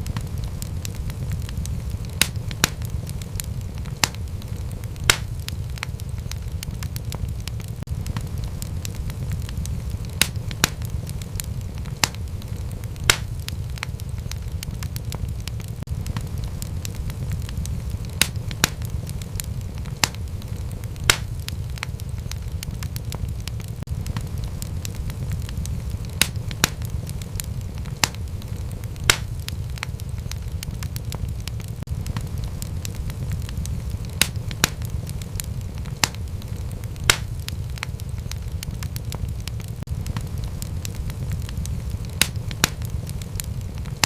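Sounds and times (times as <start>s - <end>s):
fire popping and snapping: 0.0s - 44.0s
low rumble of fire: 0.0s - 44.0s.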